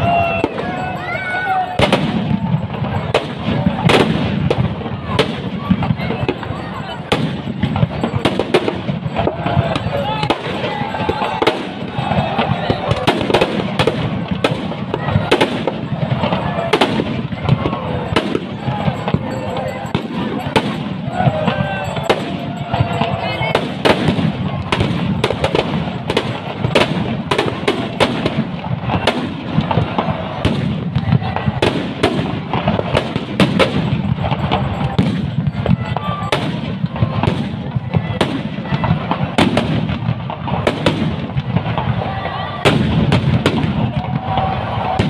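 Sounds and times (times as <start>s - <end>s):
firecrackers banging: 0.0s - 45.0s.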